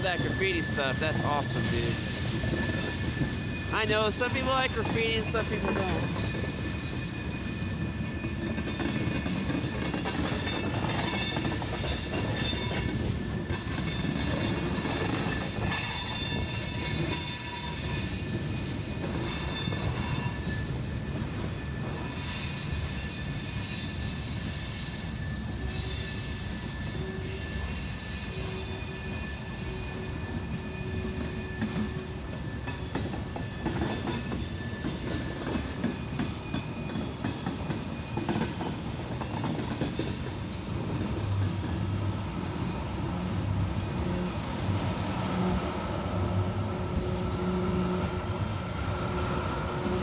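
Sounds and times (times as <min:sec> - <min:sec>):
high-pitched wheel squeal: 0:00.0 - 0:40.1
train wheels rumbling on rail: 0:00.0 - 0:50.0.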